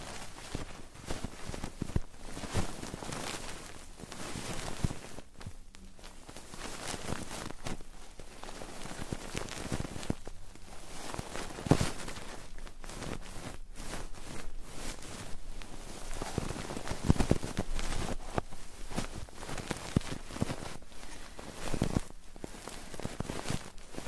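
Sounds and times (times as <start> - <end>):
rubbing and scratching on microphone: 0.0 - 24.0.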